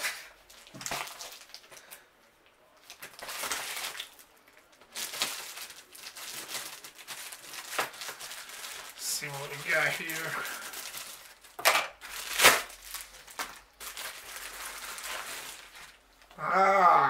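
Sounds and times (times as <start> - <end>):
plastic mailer crinkling: 0.0 - 2.0, 2.8 - 16.3.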